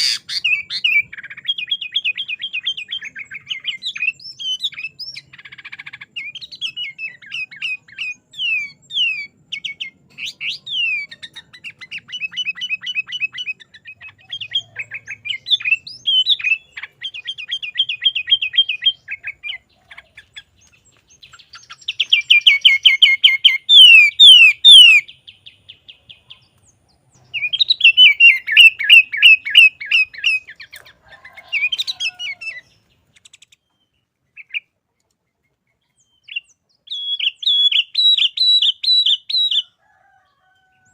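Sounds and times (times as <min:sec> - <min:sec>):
bird chirping and trilling: 0:00.0 - 0:34.8, 0:35.7 - 0:39.8.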